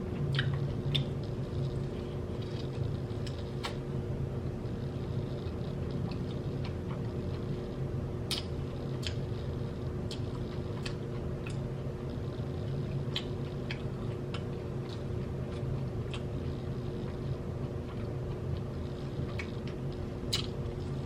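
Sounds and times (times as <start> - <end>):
steady low hum: 0.0 - 21.0
crunching and chewing crispy food: 0.2 - 21.0.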